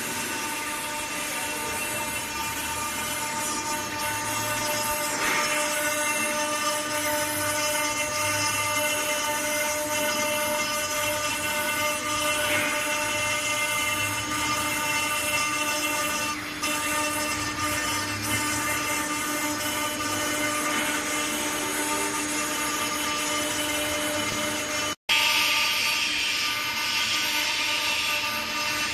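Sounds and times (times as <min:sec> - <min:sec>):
engraving spindle whining: 0:00.0 - 0:28.9.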